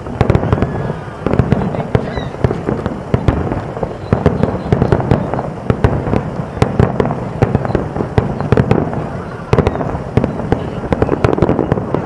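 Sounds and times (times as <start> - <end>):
fireworks bursting: 0.0 - 12.0
rumbling echo: 0.0 - 12.0.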